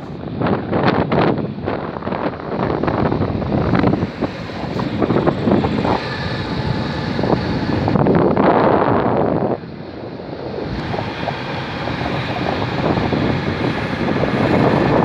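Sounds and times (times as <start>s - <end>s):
traffic rushing: 0.0s - 15.0s
vehicle running noise: 0.0s - 15.0s
wind buffeting microphone: 0.0s - 15.0s.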